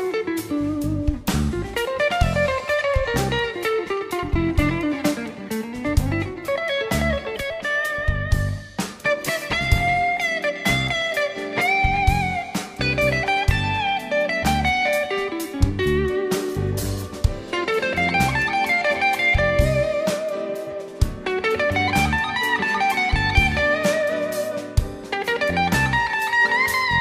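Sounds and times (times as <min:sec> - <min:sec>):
drums: 0:00.0 - 0:27.0
electric guitar lead: 0:00.0 - 0:27.0
keyboard: 0:00.0 - 0:27.0.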